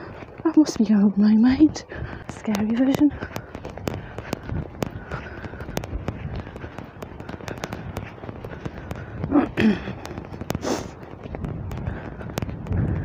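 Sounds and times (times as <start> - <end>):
crackles and clicks: 0.0 - 13.0
wind buffeting microphone: 0.0 - 13.0.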